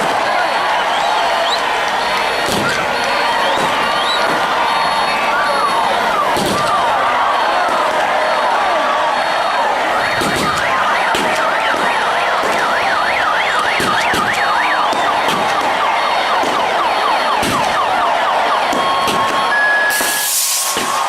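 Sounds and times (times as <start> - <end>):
electronic vehicle sirens: 0.0 - 21.0.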